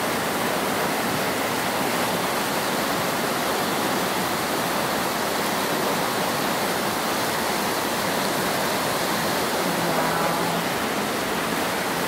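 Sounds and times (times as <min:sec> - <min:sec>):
whitewater rapids rushing: 0:00.0 - 0:12.0.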